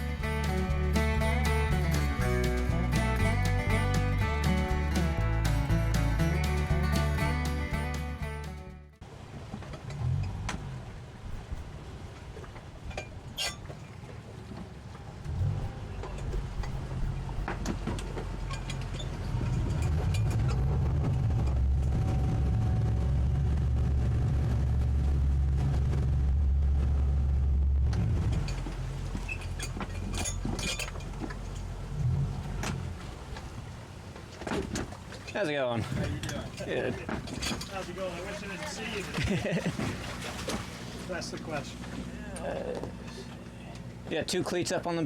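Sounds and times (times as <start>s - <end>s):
outboard motors running: 0.0s - 45.0s.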